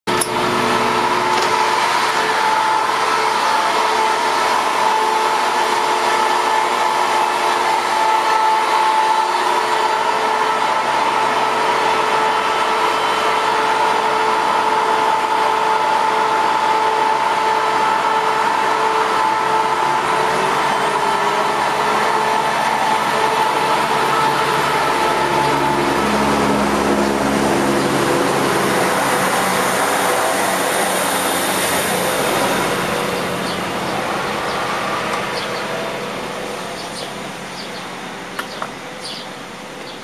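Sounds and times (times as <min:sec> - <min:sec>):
train engine hum: 0:00.0 - 0:40.0
constant whine: 0:00.1 - 0:40.0.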